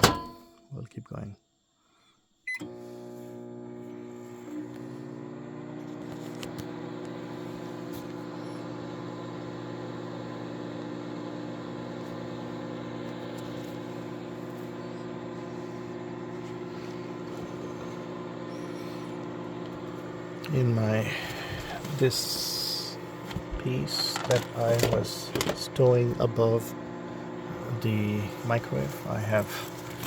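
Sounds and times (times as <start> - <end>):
microwave oven humming: 0.0 - 0.4, 2.5 - 30.0.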